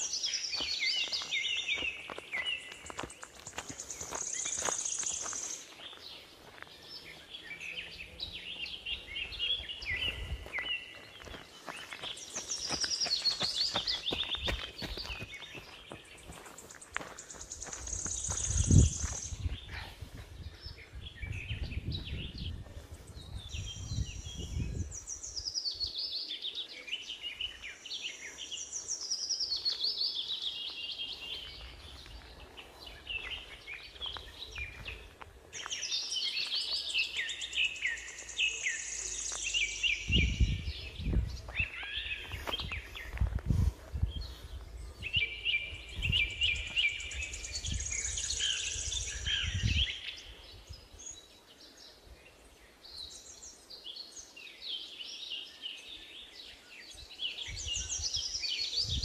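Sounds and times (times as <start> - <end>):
songbirds trilling: 0.0 - 59.0.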